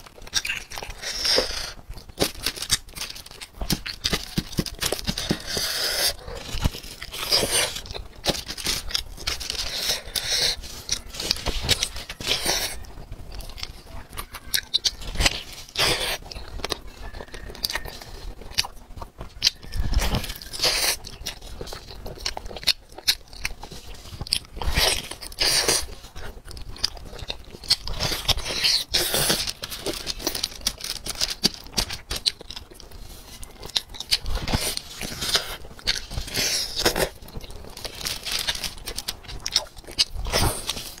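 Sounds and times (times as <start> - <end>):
person chewing with wet mouth noises: 0.0 - 41.0.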